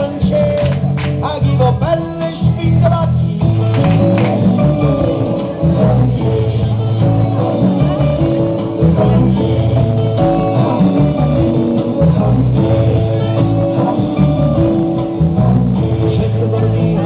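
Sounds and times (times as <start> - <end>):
upbeat folk-pop instrumental: 0.0 - 17.0.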